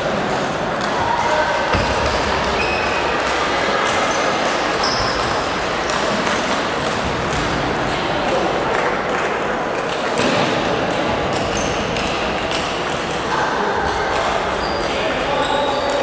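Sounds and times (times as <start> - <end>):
hubbub of large hall: 0.0 - 16.0.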